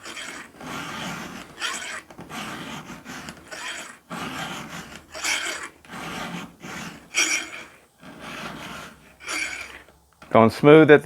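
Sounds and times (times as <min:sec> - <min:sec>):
file strokes on chainsaw chain: 0:00.0 - 0:09.9.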